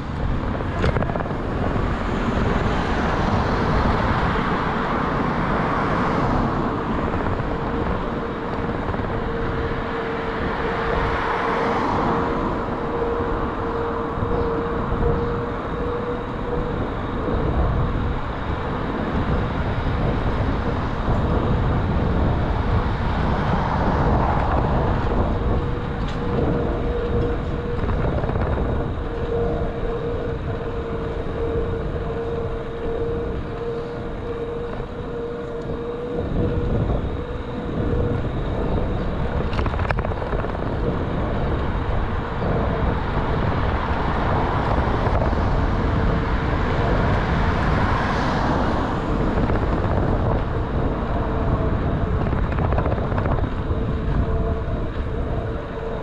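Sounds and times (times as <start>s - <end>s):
faint steady whine: 0.0s - 56.0s
road rumble: 0.0s - 56.0s
wind buffeting: 0.0s - 56.0s.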